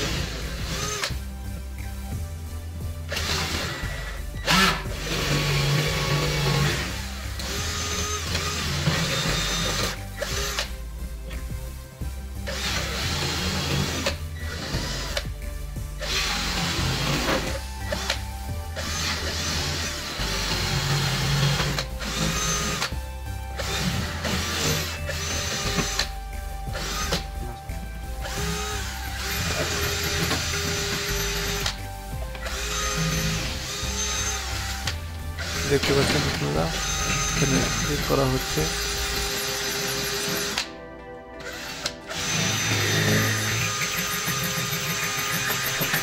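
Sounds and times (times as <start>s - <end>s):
cordless drill boring into metal: 0.0s - 1.2s, 3.1s - 10.7s, 12.5s - 15.3s, 16.0s - 18.2s, 18.8s - 22.9s, 23.6s - 26.2s, 26.8s - 27.3s, 28.2s - 31.8s, 32.4s - 40.7s, 41.4s - 46.0s
background music: 0.0s - 46.0s.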